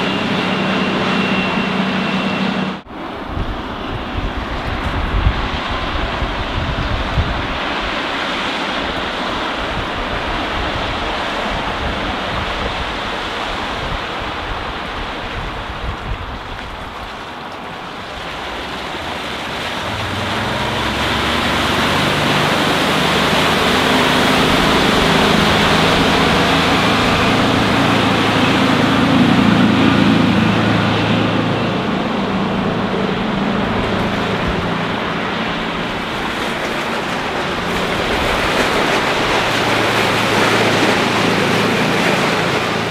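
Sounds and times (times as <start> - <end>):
boat diesel engine drone: 0.0 - 42.9
hiss of wake and water: 0.0 - 42.9
wind buffeting microphone: 2.8 - 42.9.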